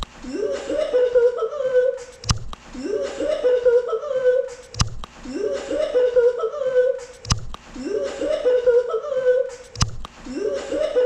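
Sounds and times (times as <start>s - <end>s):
voice giggling laugh: 0.2s - 2.2s, 2.8s - 7.2s, 7.8s - 11.0s.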